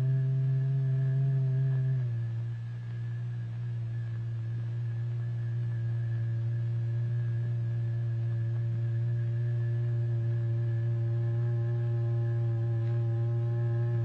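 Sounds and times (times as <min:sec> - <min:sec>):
low electronic sine tone: 0:00.0 - 0:14.0.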